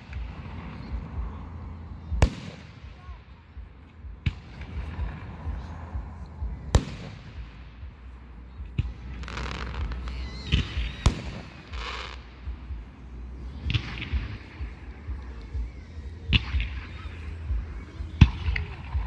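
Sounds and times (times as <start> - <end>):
firework hiss and crackle: 0.0 - 3.6, 4.2 - 19.0.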